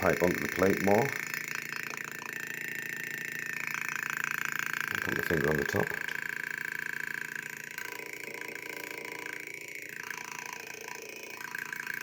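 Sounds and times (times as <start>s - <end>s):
electronic burbling engine-like sound: 0.0s - 12.0s.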